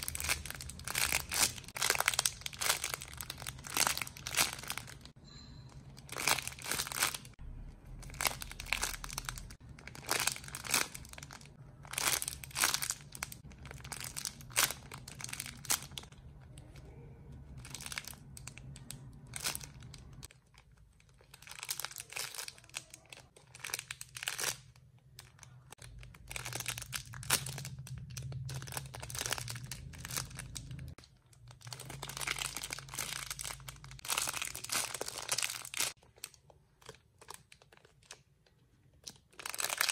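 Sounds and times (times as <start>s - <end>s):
wrapping crinkling and rustling: 0.0s - 5.2s, 6.0s - 7.4s, 8.0s - 39.9s.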